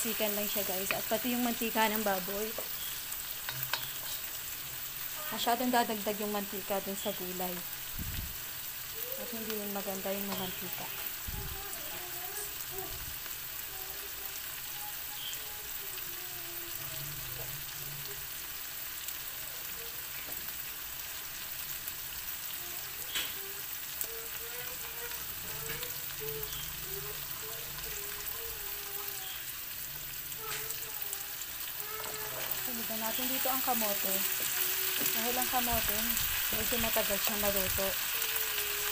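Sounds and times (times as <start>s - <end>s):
meat sizzling in oil: 0.0s - 38.9s.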